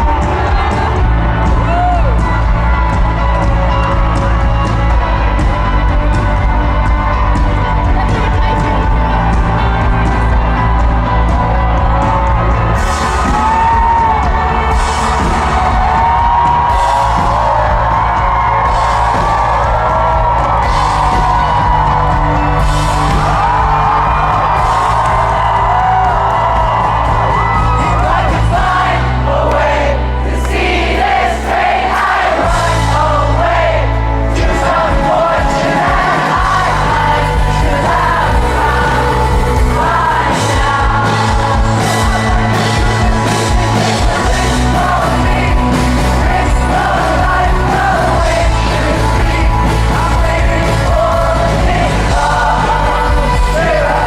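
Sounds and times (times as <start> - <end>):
lead vocal singing: 0.0 - 54.0
live rock band playing: 0.0 - 54.0.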